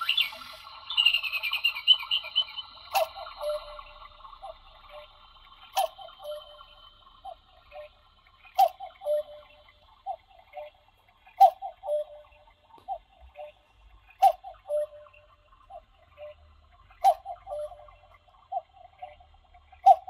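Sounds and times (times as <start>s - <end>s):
clock ticking: 2.8s - 20.0s.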